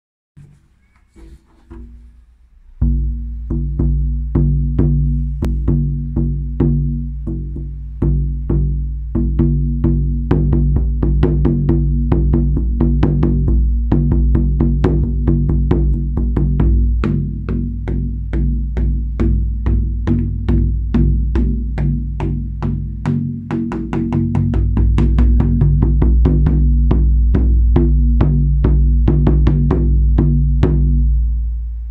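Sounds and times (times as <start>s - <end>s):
frame drum beats: 0.4s - 31.9s.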